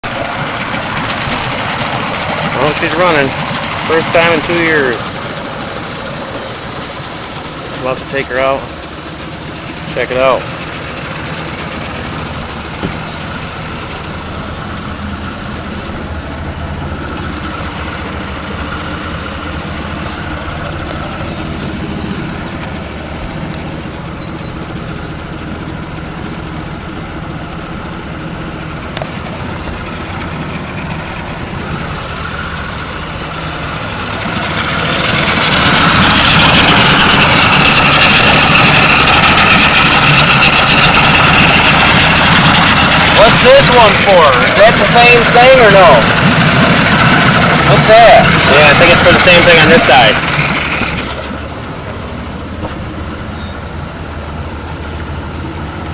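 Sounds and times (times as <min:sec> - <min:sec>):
boat engine idling: 0:00.0 - 0:55.9.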